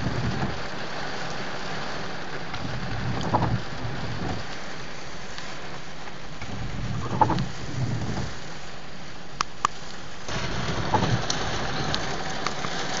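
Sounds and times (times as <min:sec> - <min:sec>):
heavy rain and floodwater rushing: 0:00.0 - 0:13.0.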